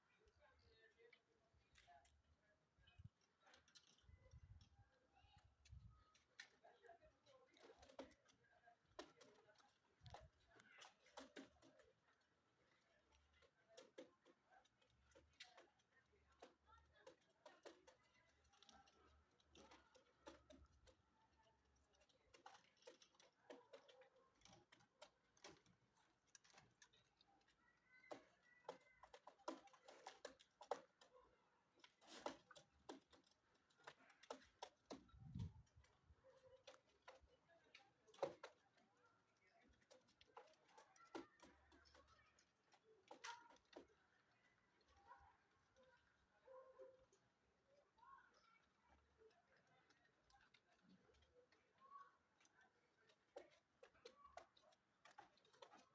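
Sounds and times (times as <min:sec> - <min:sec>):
faint clicks and taps: 0:00.2 - 0:55.9.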